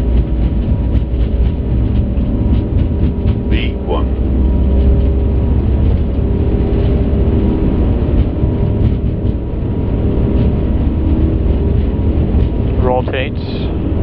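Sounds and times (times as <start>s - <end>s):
jet engines rumbling on takeoff: 0.0s - 14.0s
wheels rolling on runway: 0.0s - 14.0s.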